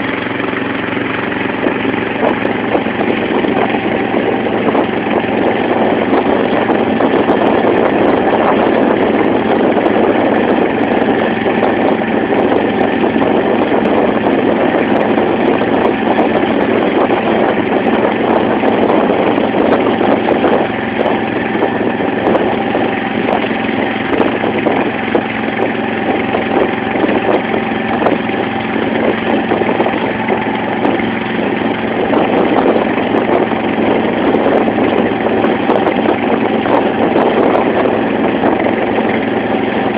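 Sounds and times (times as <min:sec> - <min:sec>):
motorboat engine running: 0:00.0 - 0:39.9.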